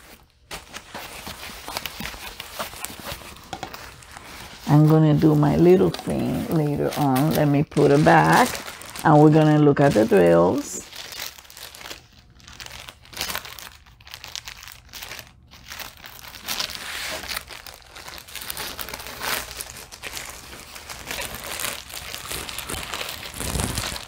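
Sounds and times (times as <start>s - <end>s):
plastic sleeve crinkling: 0.0s - 24.0s.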